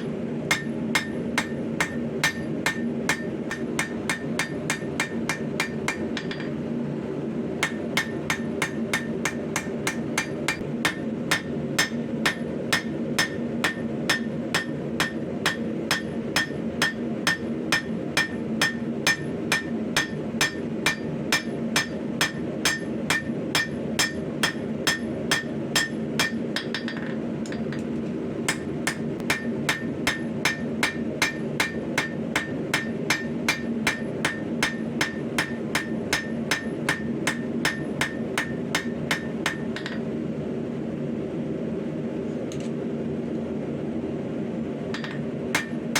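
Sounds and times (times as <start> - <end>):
hammer striking steel on anvil: 0.0 - 6.6, 7.6 - 27.9, 28.5 - 40.1, 45.0 - 45.9.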